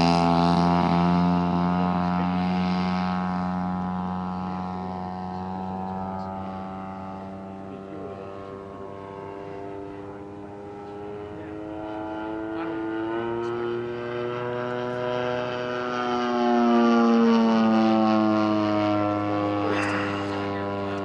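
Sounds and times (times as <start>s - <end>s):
model airplane engine droning: 0.0s - 21.0s.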